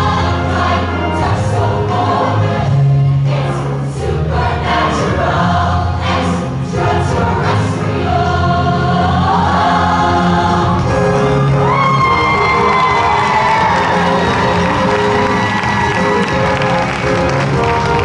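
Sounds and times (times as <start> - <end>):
women's choir singing: 0.0 - 16.4
live backing band: 0.0 - 18.0.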